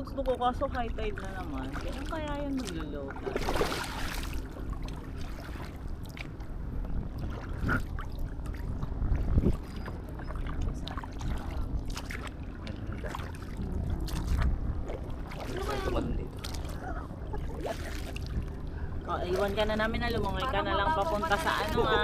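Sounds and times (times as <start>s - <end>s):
wind rumble on microphone: 0.0s - 22.0s
paddle splashing water: 0.2s - 22.0s.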